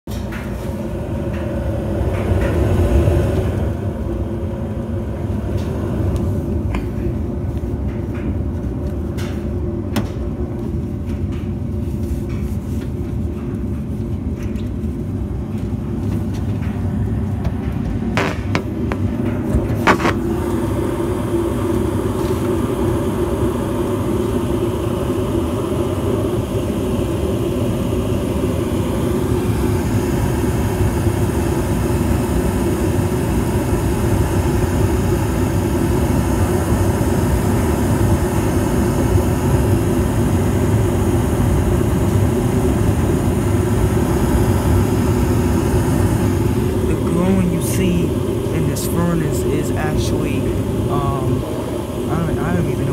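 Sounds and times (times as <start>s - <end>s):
gas furnace rumbling: 0.0s - 52.9s.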